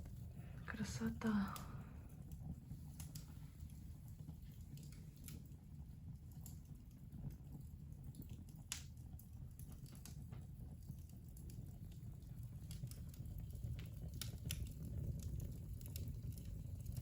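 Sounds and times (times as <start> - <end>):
low steady fire rumble: 0.0 - 17.0
wood fire crackling: 0.0 - 17.0.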